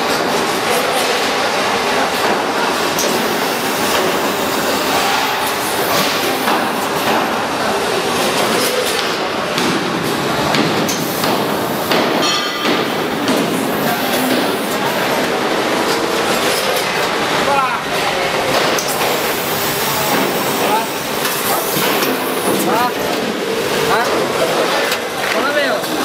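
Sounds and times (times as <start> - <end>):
packaging machinery clattering: 0.0 - 26.0.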